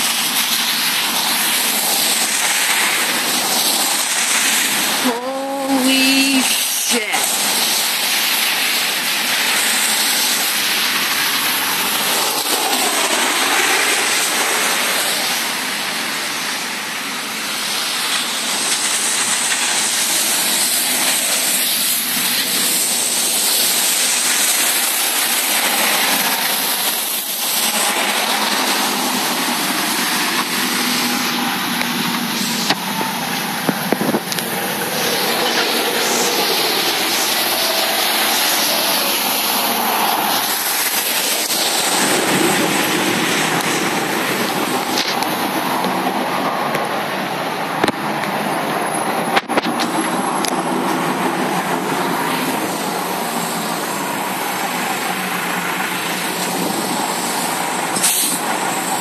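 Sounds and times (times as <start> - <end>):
wind and rain hissing: 0.0 - 59.0.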